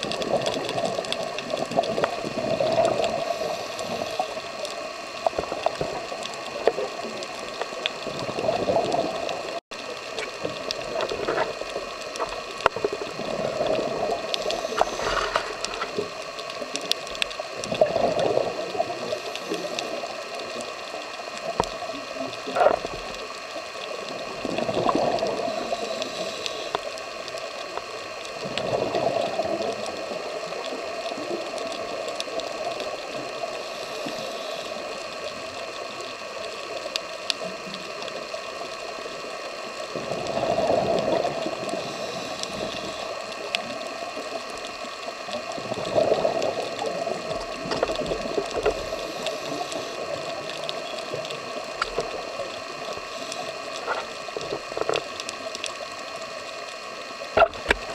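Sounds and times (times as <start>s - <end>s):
steady underwater hiss: 0.0s - 57.9s.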